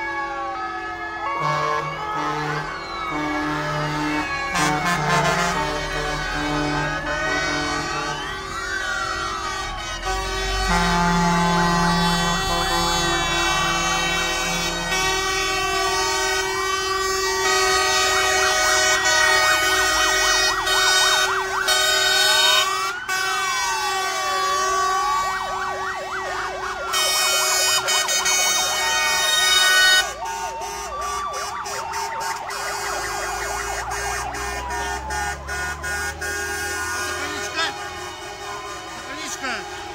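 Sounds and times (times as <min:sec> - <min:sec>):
fire engine sirens: 0:00.0 - 0:39.9.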